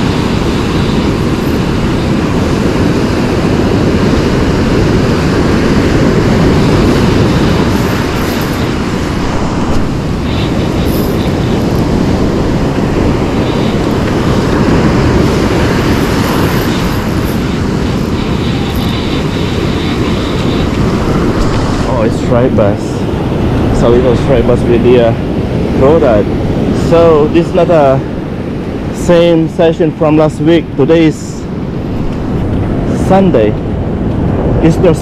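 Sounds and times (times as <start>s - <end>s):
breaking surf: 0.0s - 35.0s
wind buffeting microphone: 0.0s - 35.0s.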